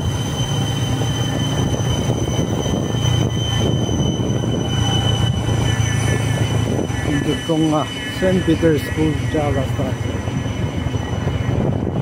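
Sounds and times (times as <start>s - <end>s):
high whine: 0.0s - 12.0s.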